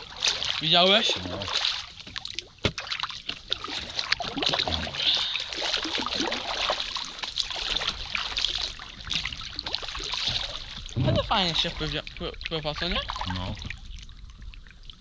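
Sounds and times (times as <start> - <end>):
paddle blades splashing: 0.0 - 14.5.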